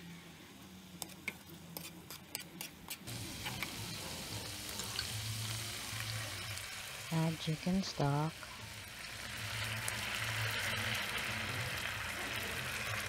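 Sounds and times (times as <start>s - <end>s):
garlic sizzling in butter: 1.0s - 13.0s.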